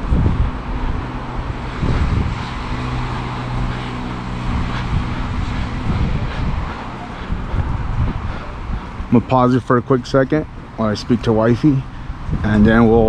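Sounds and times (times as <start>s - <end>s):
low engine hum: 0.0s - 13.0s
wind noise on microphone: 0.0s - 13.0s.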